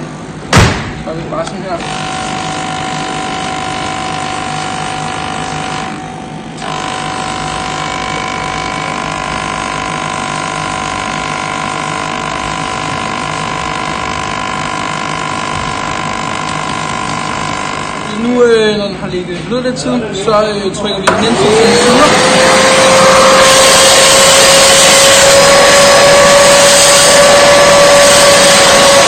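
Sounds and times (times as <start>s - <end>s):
carpet cleaner motor whine: 1.8s - 18.2s, 21.1s - 29.0s.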